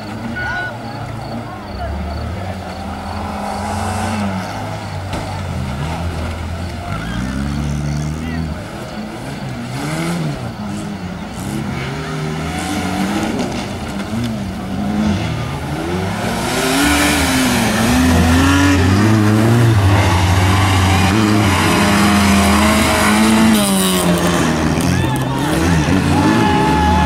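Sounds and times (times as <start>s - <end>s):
car sliding on loose dirt: 0.0s - 27.0s
race car engines revving: 0.0s - 27.0s.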